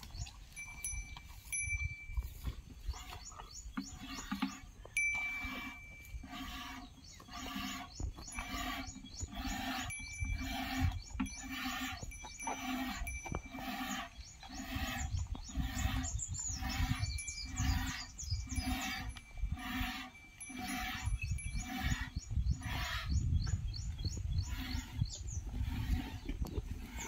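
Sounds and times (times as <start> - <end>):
high chirping: 2.9 - 25.5.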